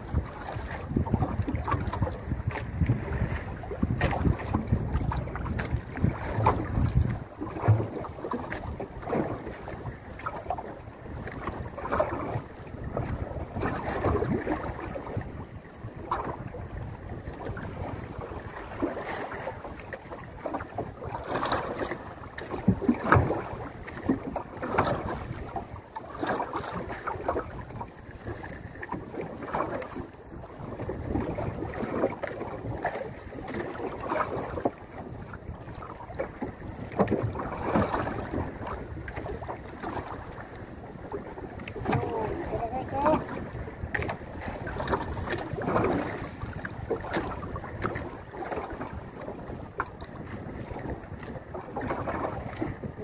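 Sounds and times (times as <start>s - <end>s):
water lapping against boat hull: 0.0s - 53.0s
wind buffeting microphone: 0.0s - 53.0s.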